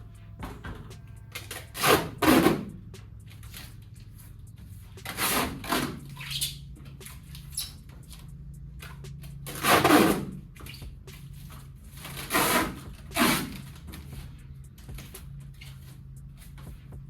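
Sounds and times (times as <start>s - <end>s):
steady low hum: 0.0s - 17.0s
rustling handling noises: 2.7s - 17.0s.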